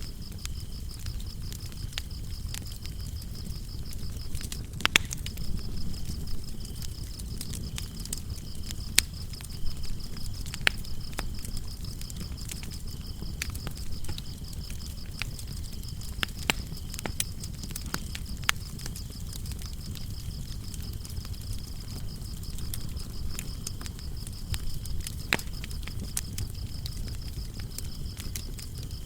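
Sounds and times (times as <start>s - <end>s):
crickets trilling: 0.0s - 29.0s
wood fire crackling and popping: 0.0s - 29.0s.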